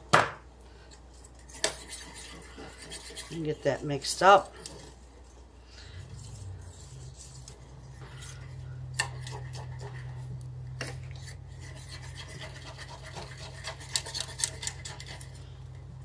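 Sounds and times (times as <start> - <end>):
low steady hum: 0.0 - 16.0
whisk scraping saucepan: 1.2 - 15.8.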